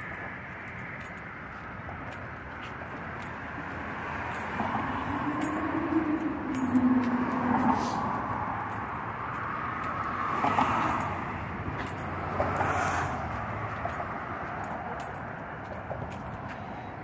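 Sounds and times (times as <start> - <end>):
tyre noise of passing cars: 0.0 - 17.0.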